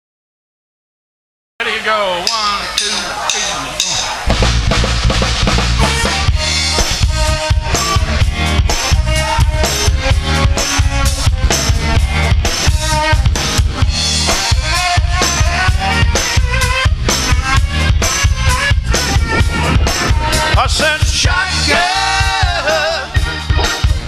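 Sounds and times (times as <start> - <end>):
band playing instrumental groove: 1.6 - 24.0
drum kit beat: 2.2 - 24.0.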